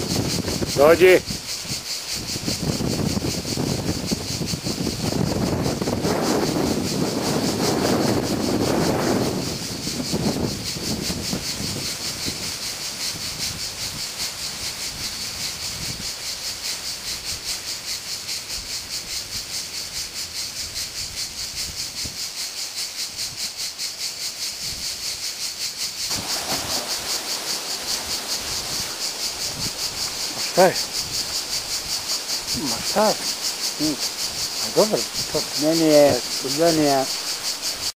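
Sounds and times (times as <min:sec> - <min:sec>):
cicadas buzzing: 0:00.0 - 0:37.9.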